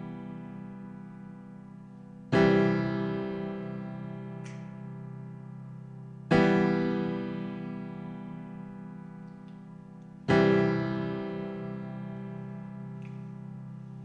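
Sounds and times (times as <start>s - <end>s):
keyboard chords ringing: 0.0s - 14.0s.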